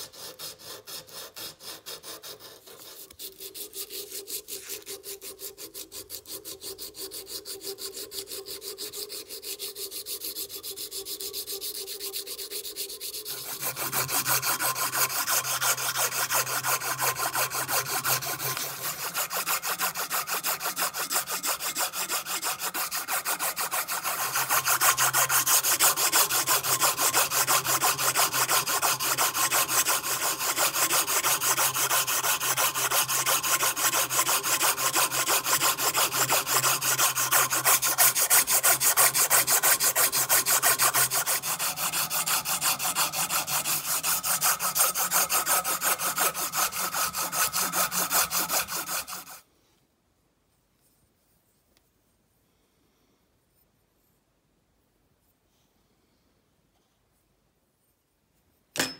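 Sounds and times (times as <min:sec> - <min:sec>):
sandpaper rasping on steel: 0:00.0 - 0:49.4.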